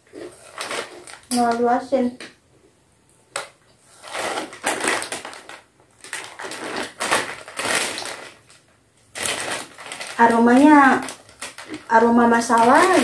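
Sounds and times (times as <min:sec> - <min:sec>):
plastic snack packet crinkling: 0:00.0 - 0:02.0, 0:03.3 - 0:13.0.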